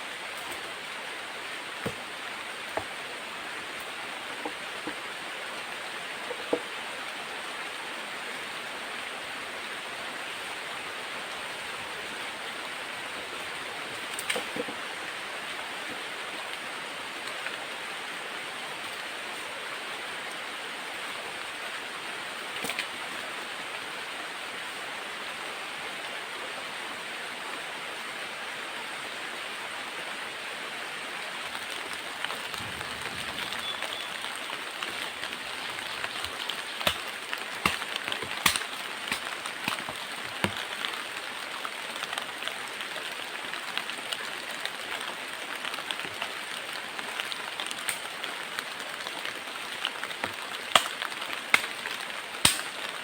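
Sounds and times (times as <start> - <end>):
flowing water: 0.0 - 53.0
heavy rain: 0.0 - 53.0.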